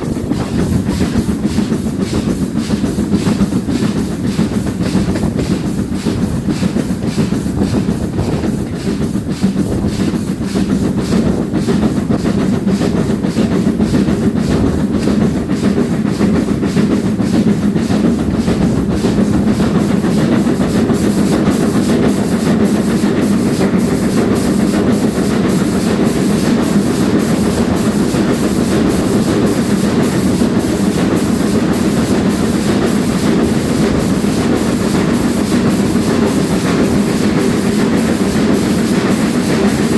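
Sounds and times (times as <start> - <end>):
carriage wheels clickety-clack: 0.0 - 39.9
steam train running: 0.0 - 39.9.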